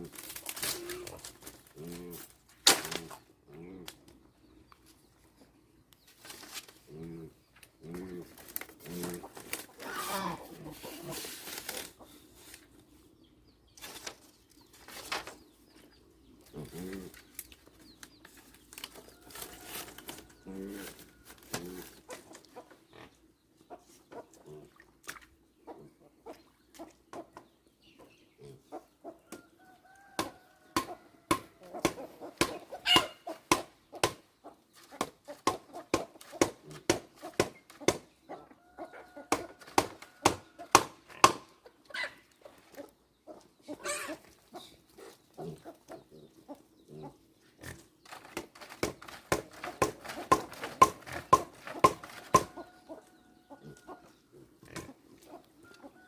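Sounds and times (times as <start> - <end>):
chickens clucking: 6.7 - 56.0.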